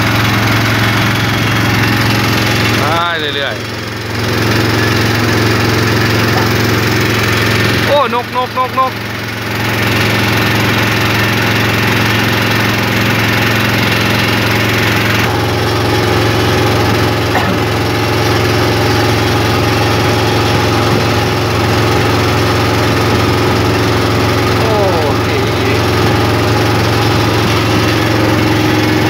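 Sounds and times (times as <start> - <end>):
boat engine droning: 0.0 - 29.0
water: 0.0 - 29.0.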